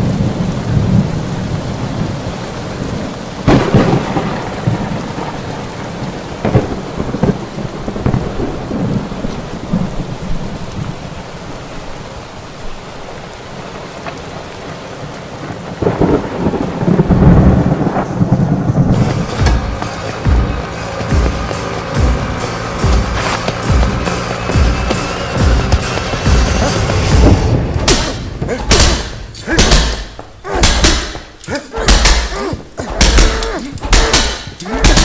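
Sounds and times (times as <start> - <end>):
rolling thunder: 0.0 - 20.7, 21.7 - 35.0
heavy rain: 0.0 - 35.0.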